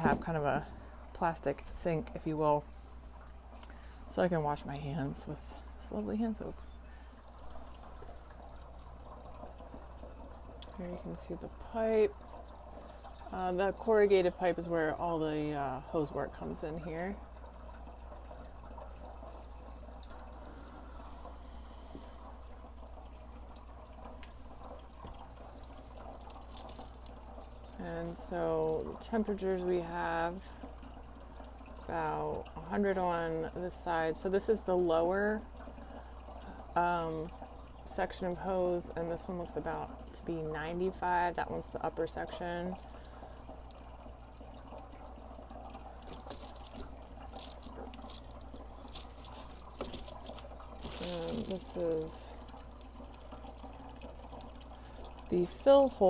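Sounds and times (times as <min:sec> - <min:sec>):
steady low hum: 0:00.0 - 0:56.0
water trickling through hoses: 0:00.0 - 0:56.0.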